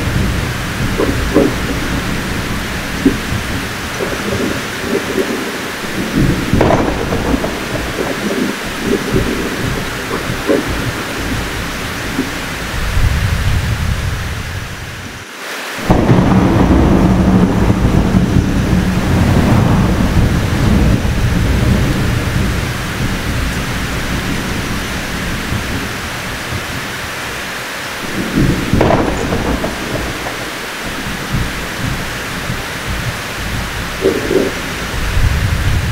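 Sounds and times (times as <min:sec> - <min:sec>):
loud thunderclap: 0:00.0 - 0:15.2, 0:15.8 - 0:35.9
thunder rumbling: 0:00.0 - 0:15.2, 0:15.8 - 0:35.9
heavy rain falling: 0:00.0 - 0:35.9.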